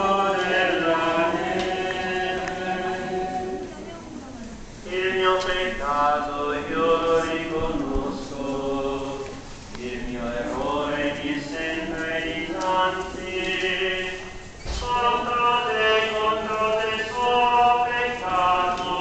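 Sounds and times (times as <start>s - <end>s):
crowd singing religious chant: 0.0s - 3.9s, 4.8s - 19.0s.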